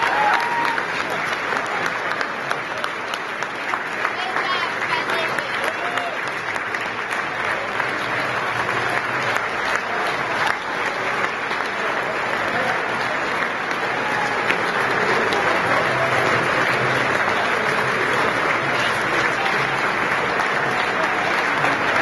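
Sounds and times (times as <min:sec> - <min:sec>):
crowd applauding: 0:00.0 - 0:22.0
crowd voices: 0:00.0 - 0:22.0.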